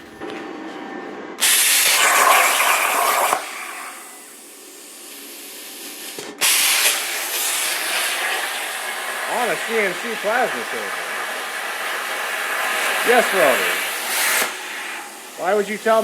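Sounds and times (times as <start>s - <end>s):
plasma cutter torch hissing: 1.4s - 16.0s.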